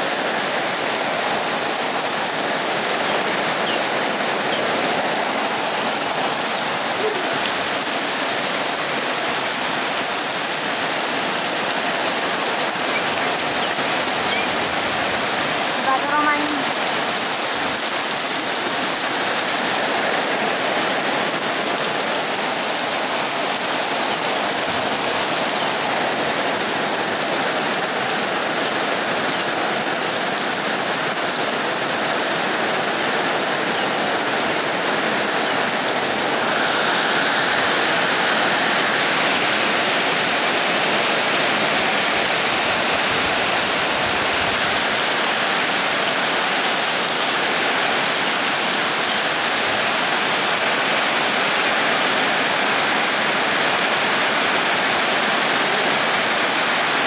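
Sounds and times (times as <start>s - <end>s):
heavy rain pouring: 0.0s - 57.0s
water streaming off roof edge: 0.0s - 57.0s.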